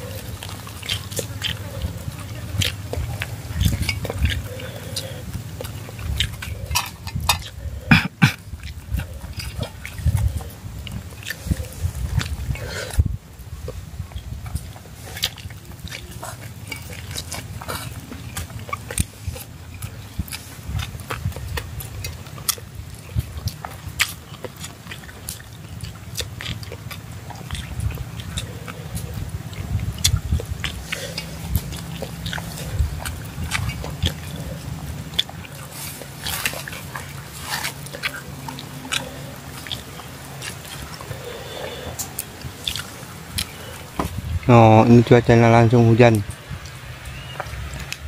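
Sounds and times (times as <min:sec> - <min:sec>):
low steady rumble: 0:00.0 - 0:48.0
people chewing and eating: 0:00.0 - 0:48.0.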